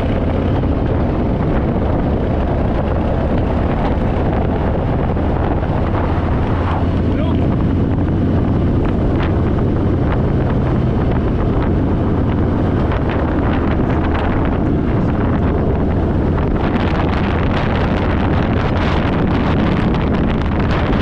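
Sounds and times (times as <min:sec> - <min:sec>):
motorcycle engine running: 0:00.0 - 0:21.0
wind noise on microphone: 0:00.0 - 0:21.0.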